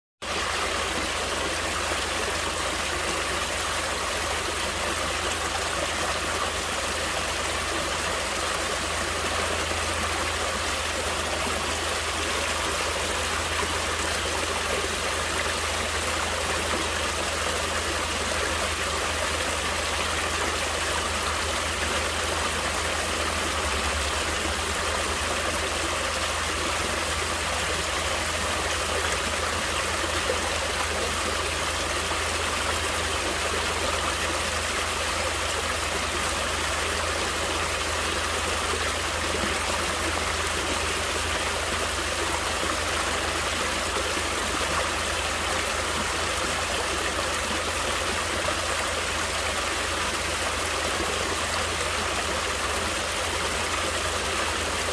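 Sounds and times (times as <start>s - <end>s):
stream flowing: 0.2s - 54.9s.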